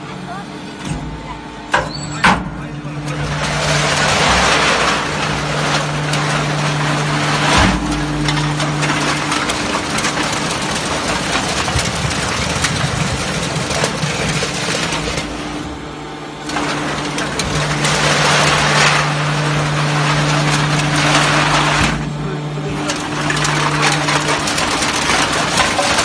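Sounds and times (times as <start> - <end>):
hydraulic pump motor hum: 0.0 - 26.0
clatter of clicks and rattles: 3.0 - 15.6, 16.4 - 26.0.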